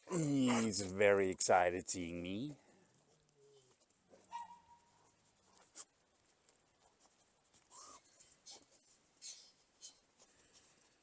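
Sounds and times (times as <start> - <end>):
faint scratchy scuffs and rustles: 0.4 - 11.0.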